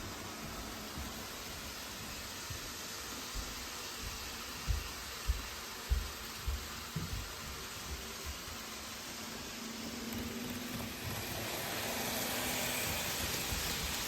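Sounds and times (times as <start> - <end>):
model train hiss: 0.0 - 14.0.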